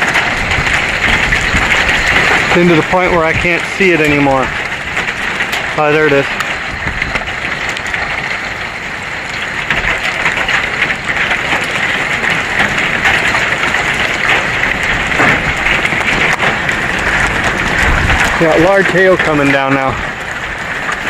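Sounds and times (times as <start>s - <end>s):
hail and rain pelting: 0.0s - 21.0s
strong wind: 0.0s - 21.0s.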